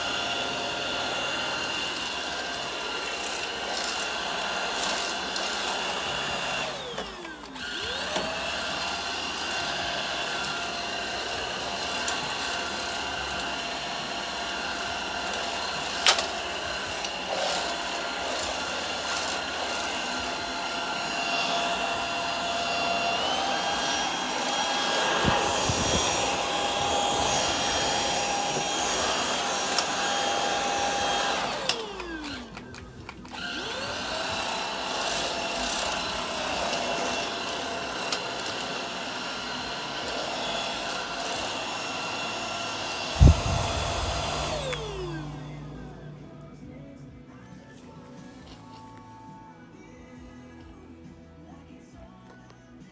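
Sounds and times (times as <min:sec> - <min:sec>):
vacuum motor whining: 0:00.0 - 0:46.4.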